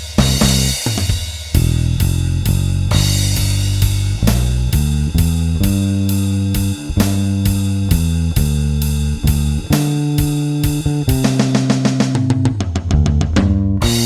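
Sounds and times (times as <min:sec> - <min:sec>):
compressed electric bass: 0:00.0 - 0:00.8, 0:01.6 - 0:14.0
drum kit steady beat: 0:00.0 - 0:14.0.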